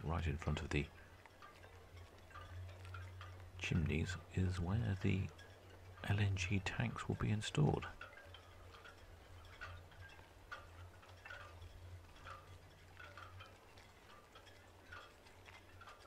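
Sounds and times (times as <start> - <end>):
low steady hum: 0.0 - 16.0
soft ticks: 0.0 - 16.0.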